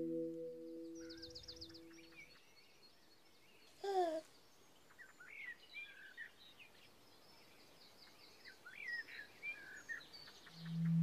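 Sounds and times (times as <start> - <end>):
songbird singing faintly: 0.0 - 11.0.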